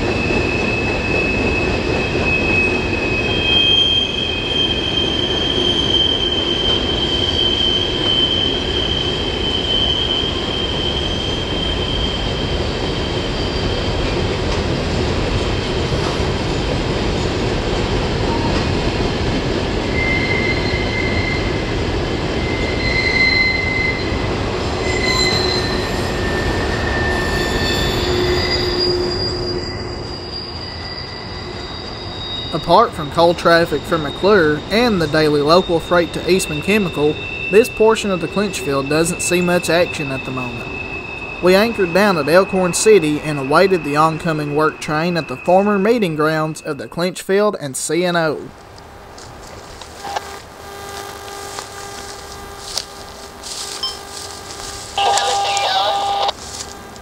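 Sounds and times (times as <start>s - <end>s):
train wheels squealing on rails: 0.0s - 47.5s
freight train rumble: 0.0s - 50.1s.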